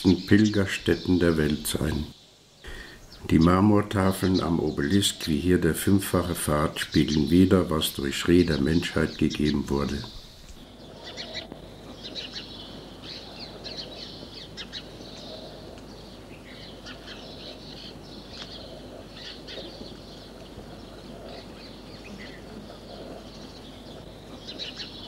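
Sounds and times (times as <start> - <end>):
birds chirping and trilling: 0.0 - 25.0
low steady hum: 0.0 - 25.0.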